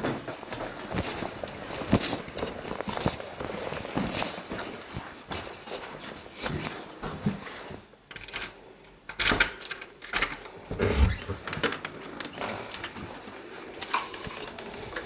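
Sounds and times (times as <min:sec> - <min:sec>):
objects being handled: 0:00.0 - 0:08.6, 0:09.6 - 0:15.0.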